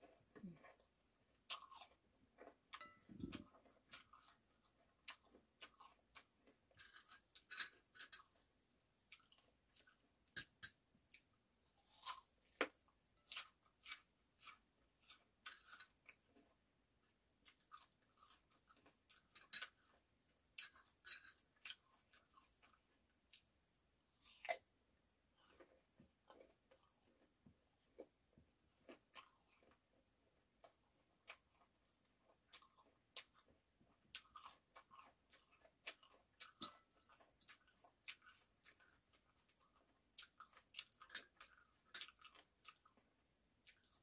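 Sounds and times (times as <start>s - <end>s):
chewing fruit with crunches: 0.0s - 44.0s.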